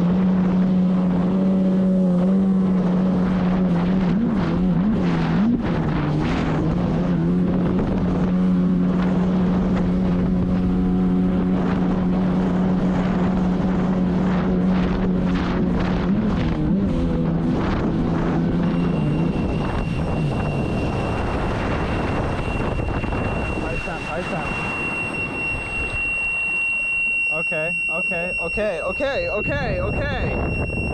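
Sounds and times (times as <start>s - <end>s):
wind buffeting microphone: 0.0s - 26.6s, 28.9s - 30.9s
watercraft engine running: 0.0s - 30.9s.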